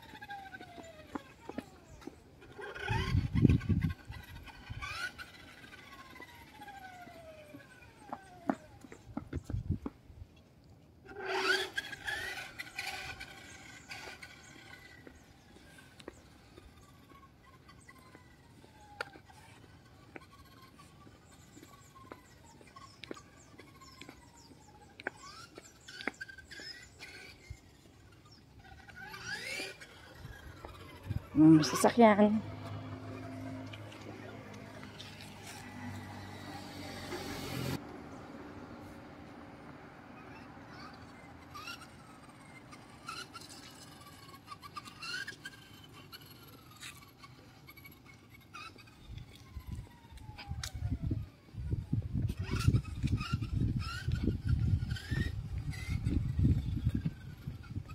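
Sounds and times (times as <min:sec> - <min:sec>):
toy car electric motor whining: 0:00.0 - 0:09.9, 0:11.0 - 0:37.9, 0:38.5 - 0:57.9
small birds chirping: 0:00.0 - 0:10.6, 0:11.2 - 0:57.9.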